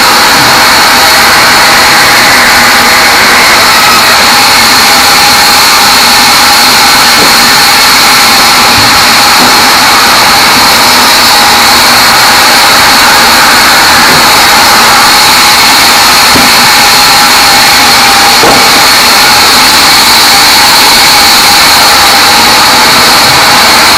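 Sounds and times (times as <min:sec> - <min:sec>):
band saw cutting logs: 0:00.0 - 0:23.9.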